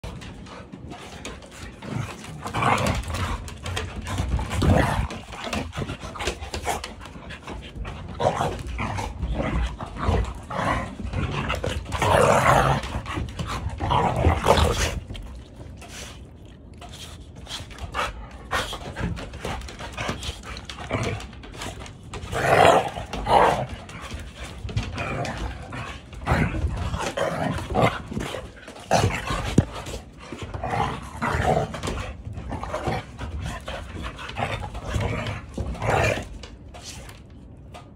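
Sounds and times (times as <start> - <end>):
dogs growling: 0.0 - 16.6, 17.6 - 36.7
dogs panting: 0.0 - 37.2.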